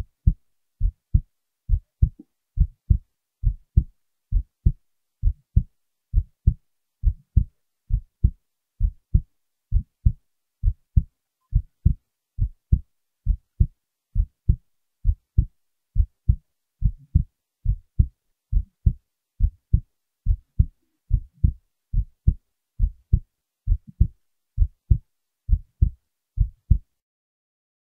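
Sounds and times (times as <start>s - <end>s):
heartbeat thumps: 0.0s - 26.9s.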